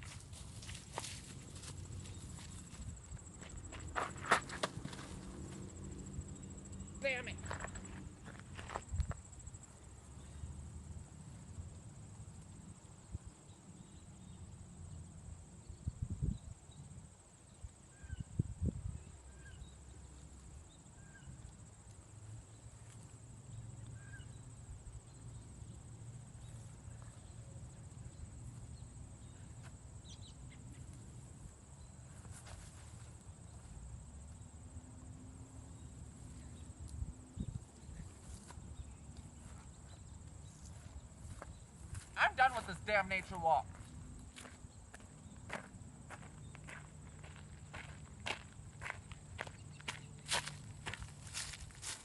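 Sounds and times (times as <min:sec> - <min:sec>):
high-pitched insect trill: 0:00.0 - 0:52.0.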